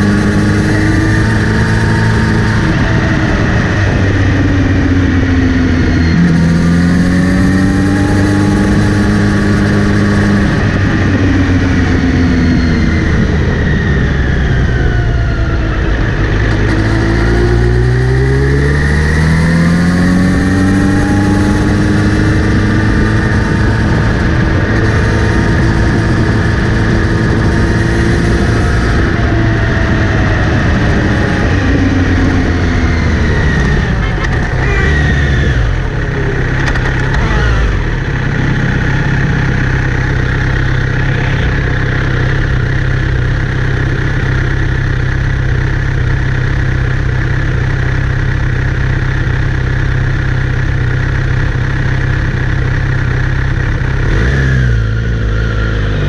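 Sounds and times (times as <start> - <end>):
motorcycle engine under way: 0.0 - 56.0.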